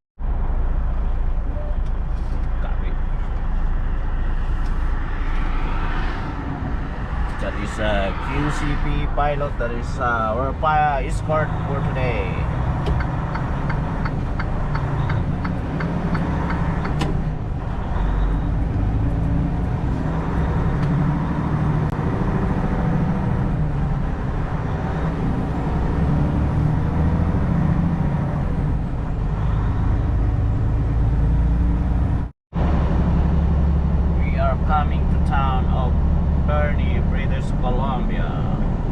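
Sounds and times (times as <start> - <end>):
road noise: 0.2 - 38.9.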